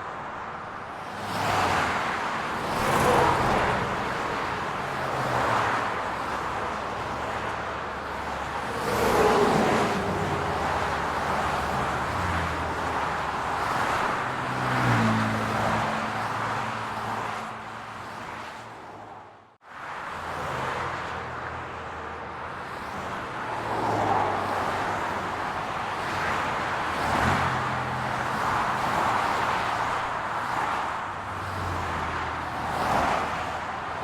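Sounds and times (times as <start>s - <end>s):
road traffic hum: 0.0s - 34.0s
cars driving past: 1.0s - 34.0s.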